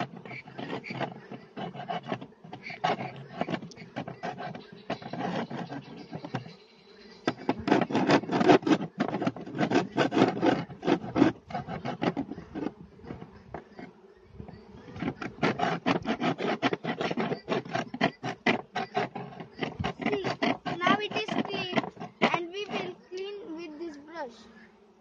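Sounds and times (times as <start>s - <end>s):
metal scraper rasping on wood: 0.0s - 24.0s
honeybees buzzing: 0.0s - 25.0s.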